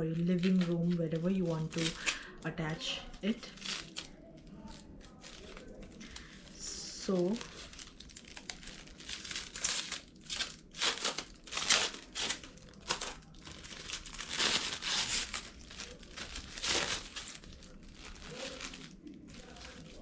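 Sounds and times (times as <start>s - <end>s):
packaging wrap crinkling: 0.1s - 20.0s.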